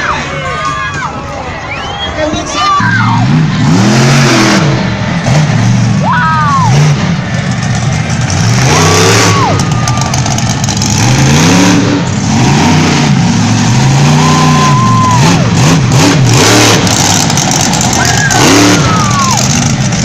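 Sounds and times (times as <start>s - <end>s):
loud rushing noise: 0.0s - 20.0s
truck engine revving: 2.7s - 20.0s.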